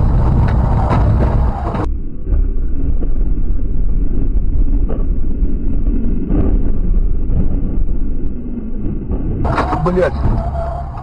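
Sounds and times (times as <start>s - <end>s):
car road and engine rumble: 0.0s - 11.0s
wind buffeting microphone: 0.0s - 11.0s.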